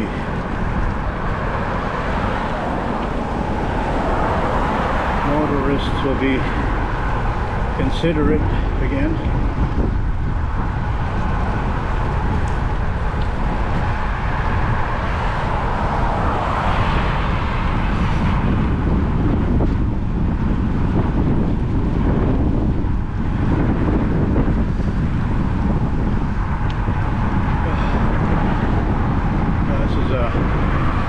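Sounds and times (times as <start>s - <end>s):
road and traffic hiss: 0.0s - 31.0s
wind buffeting microphone: 0.0s - 31.0s.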